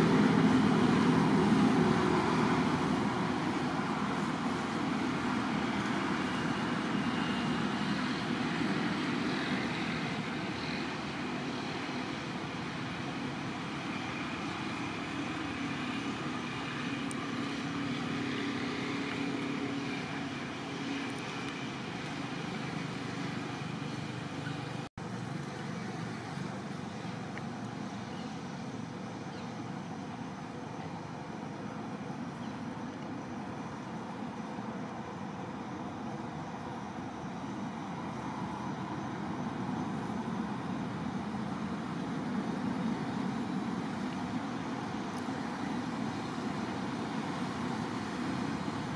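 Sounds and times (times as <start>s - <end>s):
outdoor hiss and rumble: 0.0s - 48.9s.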